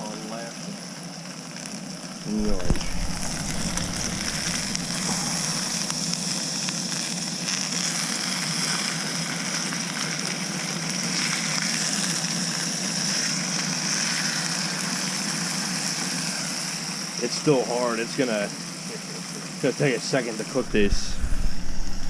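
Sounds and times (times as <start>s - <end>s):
food sizzling in a pan: 1.4s - 22.0s.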